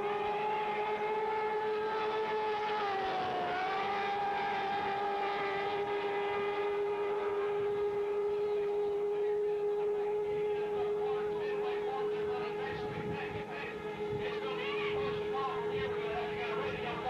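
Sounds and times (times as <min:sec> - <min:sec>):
outboard motors whining: 0:00.0 - 0:17.0.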